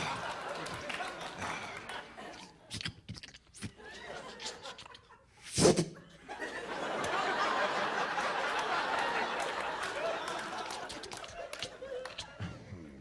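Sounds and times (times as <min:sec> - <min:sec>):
studio audience laughing: 0:00.0 - 0:02.6, 0:03.7 - 0:05.4, 0:06.0 - 0:12.6.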